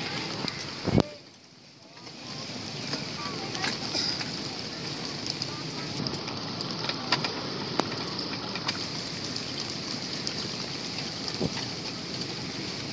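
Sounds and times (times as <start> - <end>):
rain on pavement: 0.0 - 12.9.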